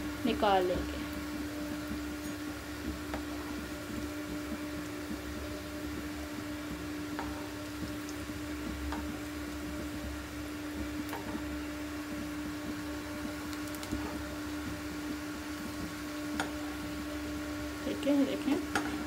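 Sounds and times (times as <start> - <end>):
food deep-frying with pops: 0.0 - 19.0
steady mechanical hum: 0.0 - 19.0.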